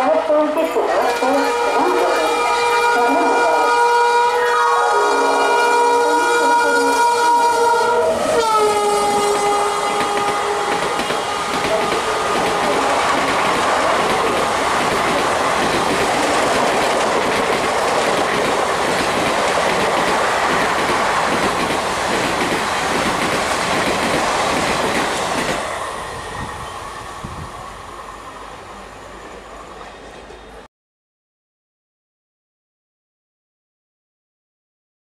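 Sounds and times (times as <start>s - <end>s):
train wheels rushing on rails: 0.5s - 30.7s.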